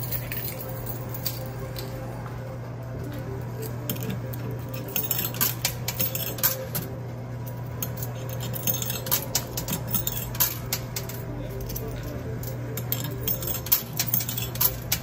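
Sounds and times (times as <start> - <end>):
coins clinking and clattering: 0.0 - 2.0, 3.1 - 15.0
steady low hum: 0.0 - 15.0.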